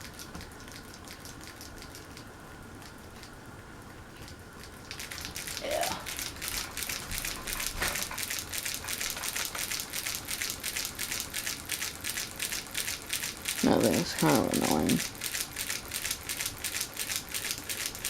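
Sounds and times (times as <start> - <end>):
ceiling fan running: 0.0 - 18.0
tape ticking on fan: 0.0 - 18.0.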